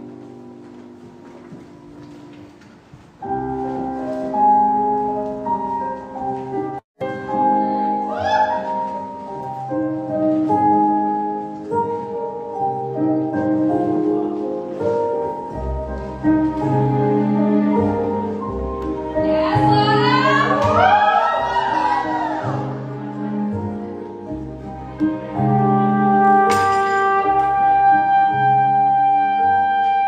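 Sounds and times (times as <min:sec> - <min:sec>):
keyboard chords: 0:00.0 - 0:30.0.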